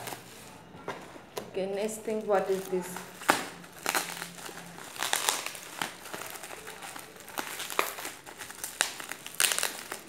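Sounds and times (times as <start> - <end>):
bubble wrap crackles: 0.0 - 10.0
bubble wrap crinkling: 0.0 - 10.0.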